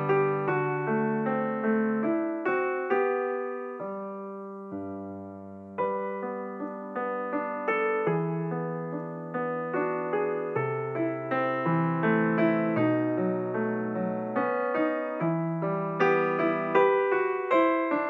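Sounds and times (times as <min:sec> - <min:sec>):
piano notes and chords: 0:00.0 - 0:18.0.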